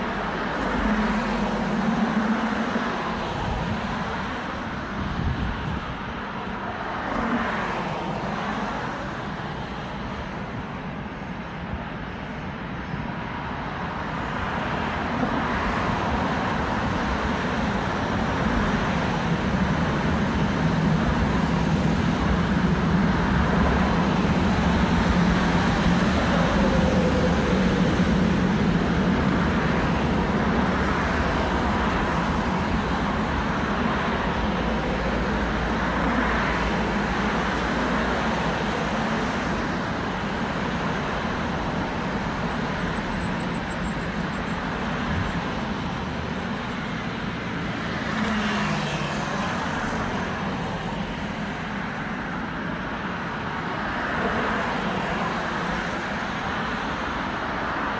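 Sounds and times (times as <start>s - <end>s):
electric train rumble: 0.0s - 57.9s
road traffic noise: 0.0s - 57.9s.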